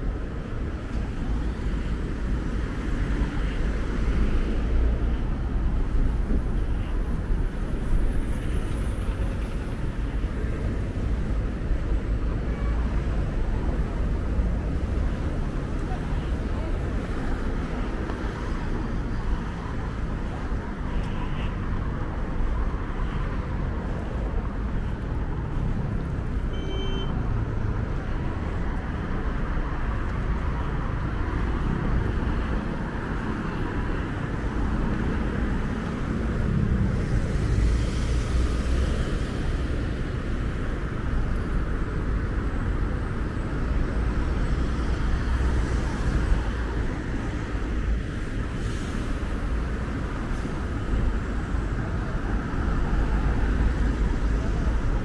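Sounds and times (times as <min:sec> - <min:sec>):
rumble of traffic: 0:00.0 - 0:55.0.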